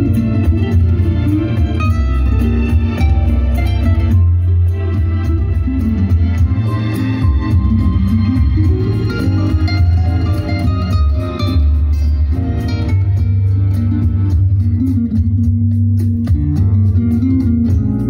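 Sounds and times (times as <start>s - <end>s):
music with heavy bass and ticking beat: 0.0s - 18.0s.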